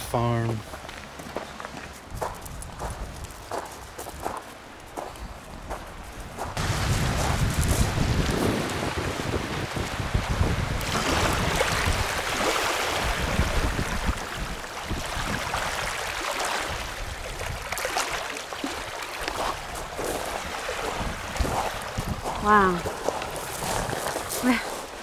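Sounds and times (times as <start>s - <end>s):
wind rumbling on microphone: 1.3s - 18.0s, 18.7s - 25.0s
waves lapping on pebble shore: 2.2s - 25.0s.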